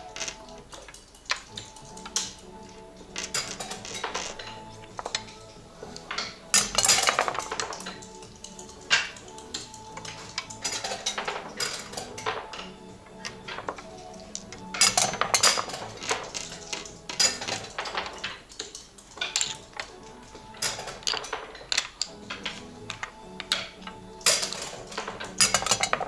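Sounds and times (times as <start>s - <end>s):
quiet background music: 0.0s - 26.0s
wooden checkers clacking: 0.0s - 26.0s.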